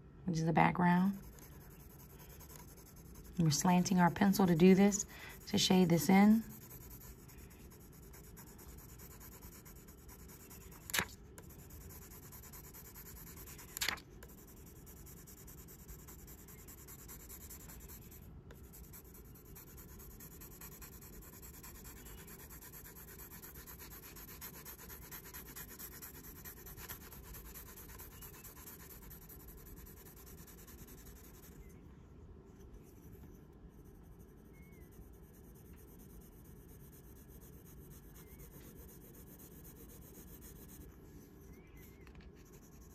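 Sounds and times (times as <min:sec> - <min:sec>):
pencil shading on paper: 0:01.0 - 0:31.6, 0:33.8 - 0:41.6.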